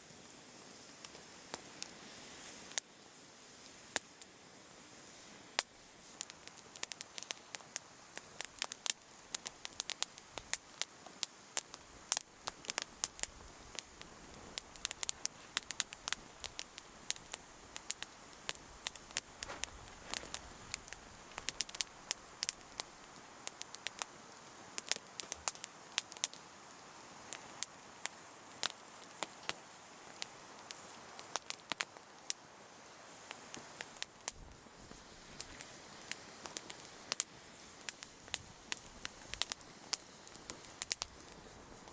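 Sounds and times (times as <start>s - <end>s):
soft hiss of burning: 0.0s - 41.9s
campfire crackling and popping: 0.3s - 4.4s, 5.1s - 41.9s.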